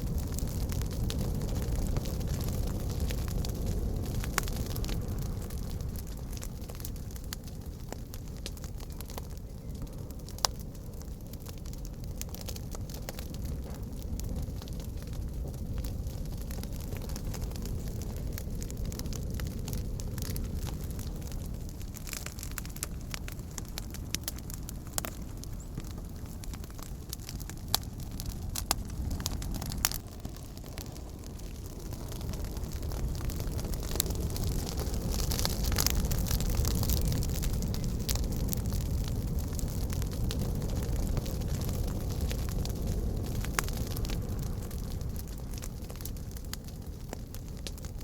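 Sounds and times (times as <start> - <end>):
campfire crackling: 0.0 - 48.0
fire popping: 0.0 - 48.0.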